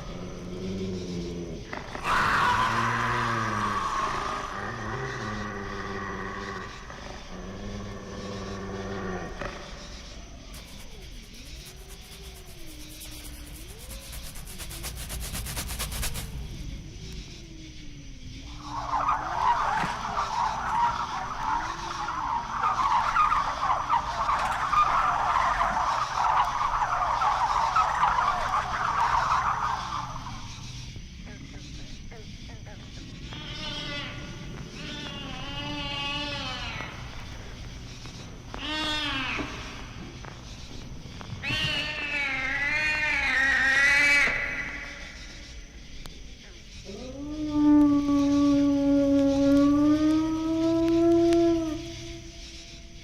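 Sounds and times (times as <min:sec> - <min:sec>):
continuous screeching noise: 0:00.0 - 0:53.0.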